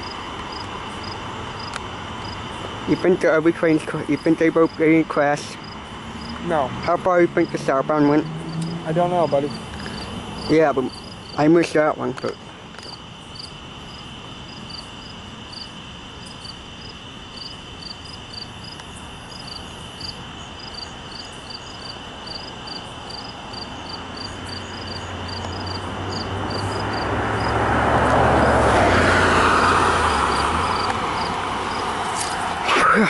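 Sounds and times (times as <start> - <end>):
crickets chirping: 0.0 - 33.0
vehicle engine hum: 0.0 - 33.0.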